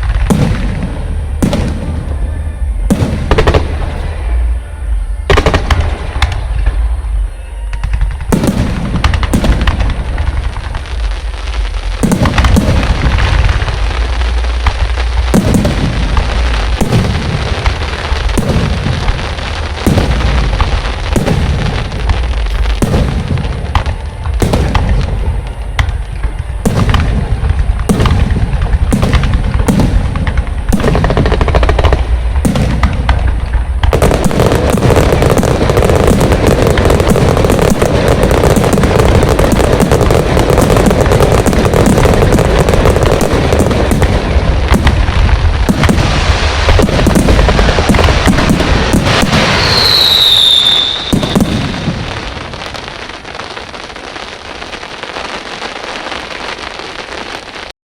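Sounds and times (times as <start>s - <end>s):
fireworks booming: 0.0s - 57.7s
fireworks crackling barrage: 0.0s - 57.8s.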